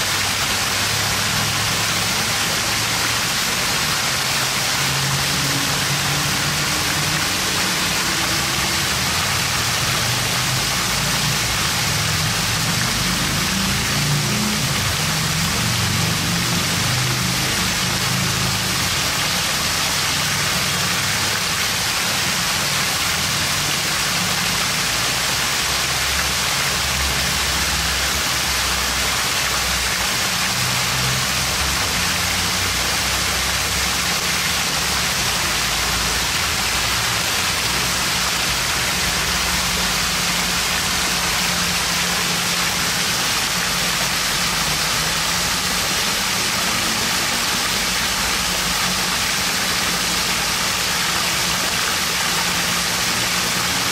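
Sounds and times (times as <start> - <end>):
fountain water splashing down: 0.0 - 53.9.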